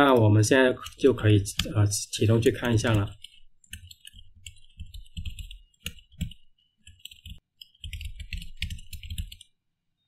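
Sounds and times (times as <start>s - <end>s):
keyboard typing: 0.0s - 9.6s.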